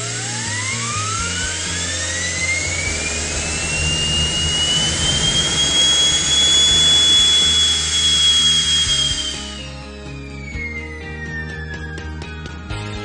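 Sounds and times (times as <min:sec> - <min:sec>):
jet engine turbine whine: 0:00.0 - 0:13.0.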